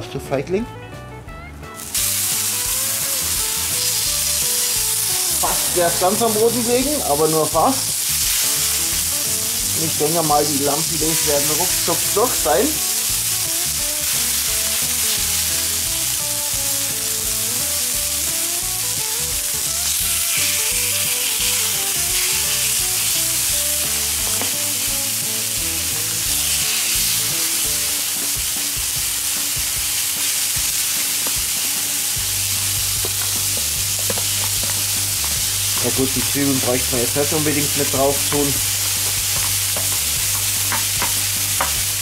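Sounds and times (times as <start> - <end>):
meat sizzling on a griddle: 1.8 - 42.0.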